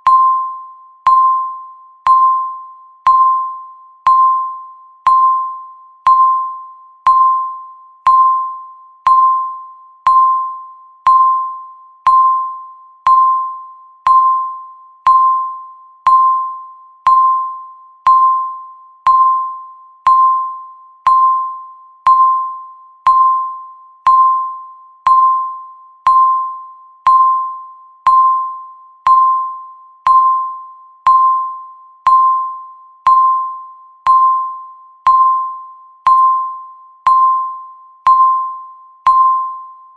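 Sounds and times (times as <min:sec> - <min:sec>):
electronic timer beeps: 0:00.0 - 0:39.9.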